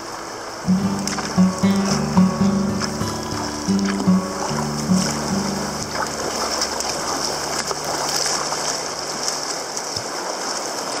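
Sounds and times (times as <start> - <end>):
water rushing and splashing: 0.0 - 11.0.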